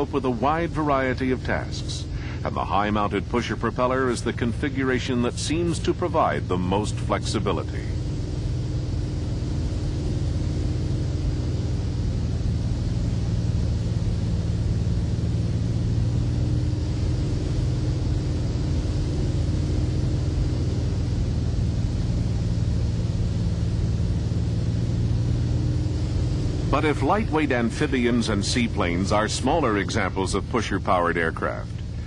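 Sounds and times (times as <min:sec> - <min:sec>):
propeller aircraft engine drone: 0:00.0 - 0:32.0.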